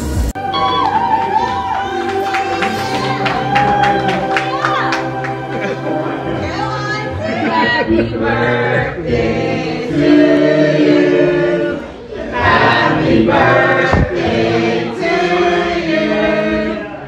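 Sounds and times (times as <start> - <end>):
choir singing: 0.4 - 17.0.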